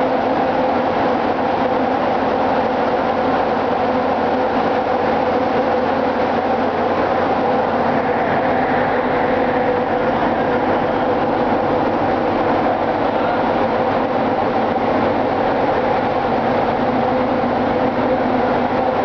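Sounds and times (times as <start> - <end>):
engine room machinery humming: 0.0 - 19.0.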